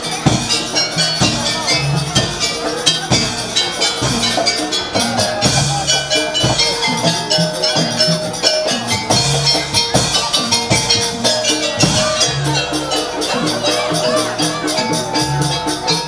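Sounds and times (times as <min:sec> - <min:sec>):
drums: 0:00.0 - 0:16.0
gong-like metal percussion: 0:00.0 - 0:16.0
sustained melodic line: 0:00.0 - 0:16.0.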